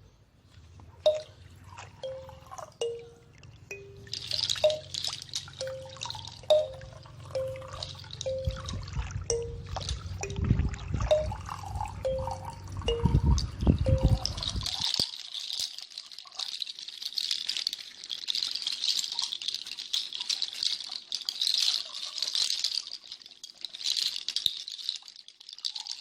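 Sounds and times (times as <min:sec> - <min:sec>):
dense rattling: 0:01.0 - 0:26.0.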